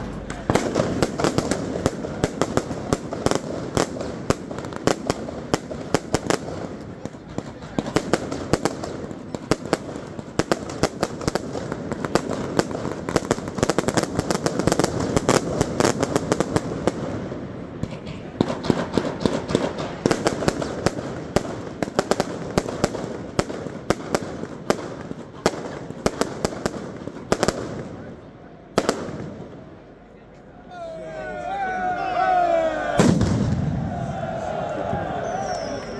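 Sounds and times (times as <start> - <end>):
fireworks and firecrackers banging: 0.0 - 30.0, 33.0 - 35.9.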